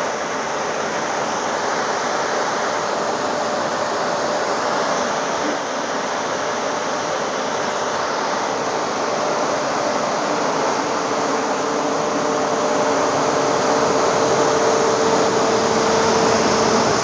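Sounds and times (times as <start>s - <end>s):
grain dryer fans running: 0.0s - 17.0s.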